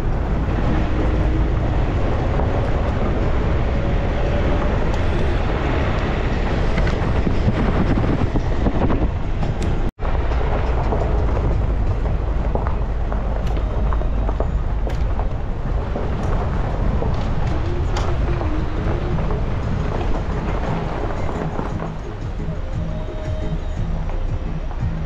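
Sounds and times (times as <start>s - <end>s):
knocks and rattles: 0.0s - 25.0s
vehicle rumbling on rough road: 0.0s - 25.0s.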